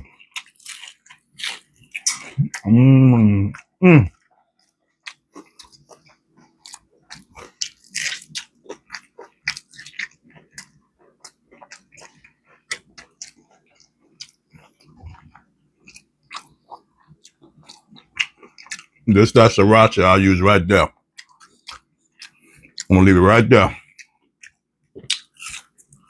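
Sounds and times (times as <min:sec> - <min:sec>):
crunchy chewing of chicken wings: 0:00.0 - 0:26.0.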